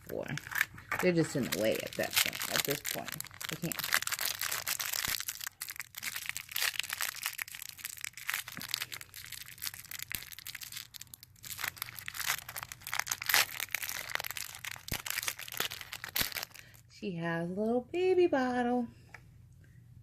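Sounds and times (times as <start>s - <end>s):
plastic packaging crinkling: 0.0s - 16.8s.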